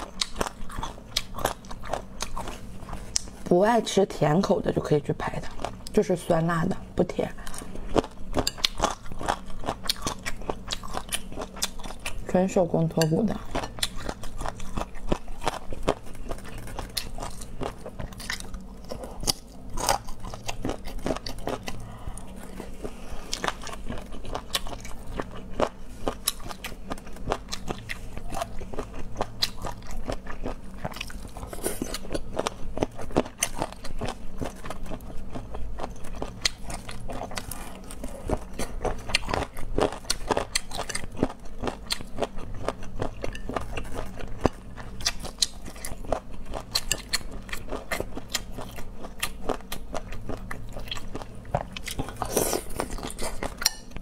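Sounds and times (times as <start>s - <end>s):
faint low hum: 0.0s - 54.0s
person chewing and crunching food: 0.0s - 54.0s.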